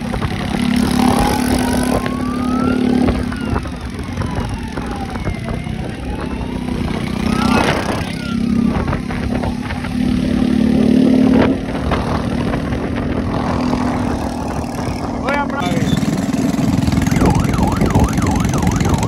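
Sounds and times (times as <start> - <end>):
motorcycle engine running: 0.0 - 19.0
wind rumbling on microphone: 0.0 - 19.0.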